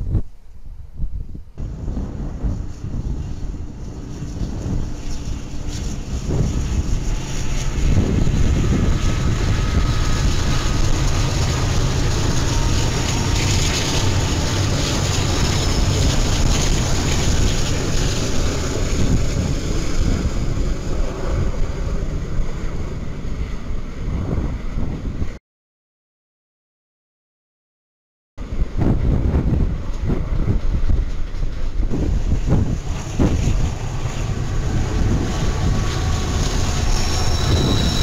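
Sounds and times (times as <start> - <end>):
freight cars rolling on rails: 1.6 - 25.3, 28.4 - 38.0
diesel locomotives running: 1.6 - 25.4, 28.4 - 38.0.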